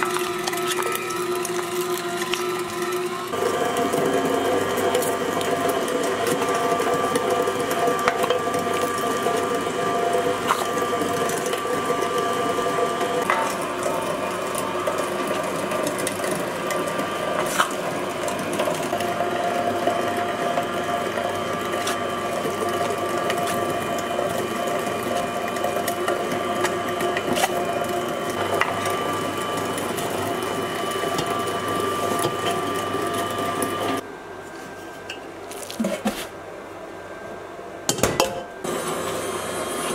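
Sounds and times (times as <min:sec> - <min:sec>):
meat grinder motor whine: 0:00.0 - 0:34.0, 0:38.6 - 0:39.9.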